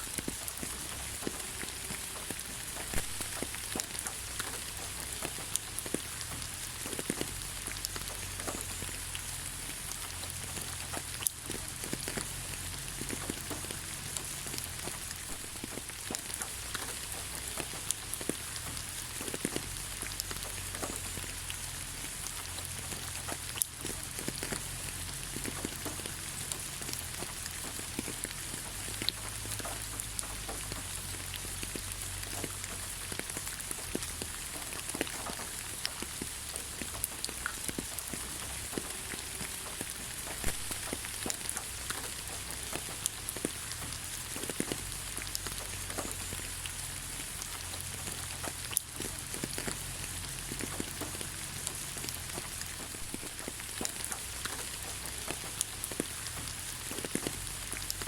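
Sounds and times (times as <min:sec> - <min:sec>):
rain falling on ground: 0:00.0 - 0:58.0.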